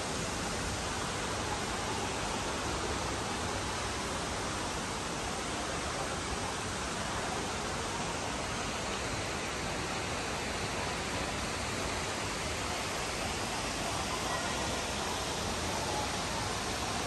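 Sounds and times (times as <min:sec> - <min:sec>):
indoor waterfall rushing: 0:00.0 - 0:17.0.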